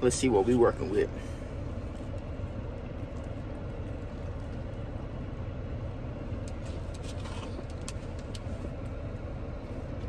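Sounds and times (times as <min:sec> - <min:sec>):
low rumble in car cabin: 0:00.0 - 0:10.0.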